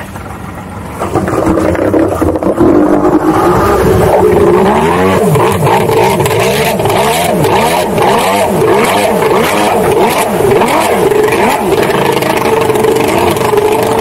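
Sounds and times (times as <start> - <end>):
jet ski engine revving loud: 1.1 - 14.0.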